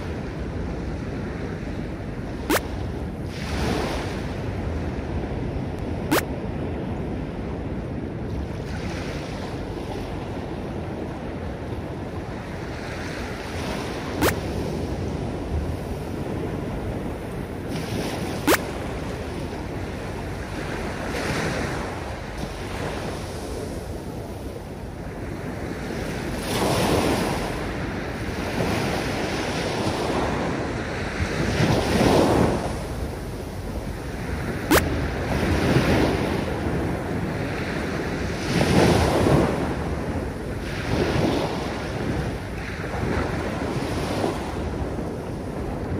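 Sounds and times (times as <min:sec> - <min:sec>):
waves washing up a beach: 0:00.0 - 0:45.9.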